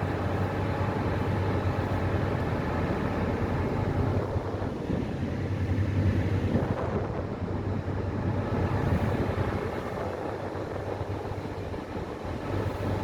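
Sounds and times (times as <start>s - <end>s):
ferry engine humming: 0.0s - 13.0s.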